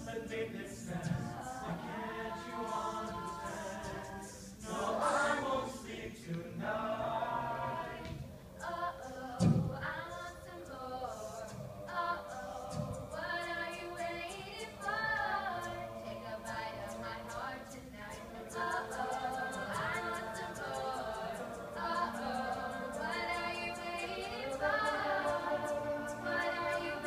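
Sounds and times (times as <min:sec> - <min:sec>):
vocal percussion beat: 0:00.0 - 0:07.2, 0:11.0 - 0:27.0
group singing in harmony: 0:00.0 - 0:27.0.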